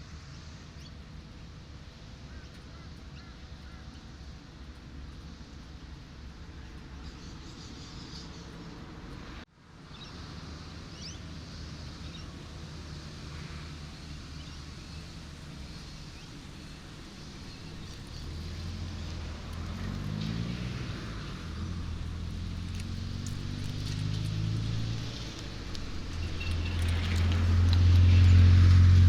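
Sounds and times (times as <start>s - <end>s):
road noise: 0.0s - 29.0s
car engine approaching: 4.2s - 29.0s.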